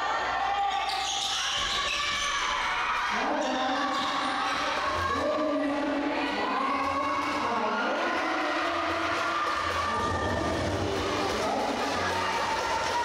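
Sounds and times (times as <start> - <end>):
crowd voices: 0.0 - 13.0.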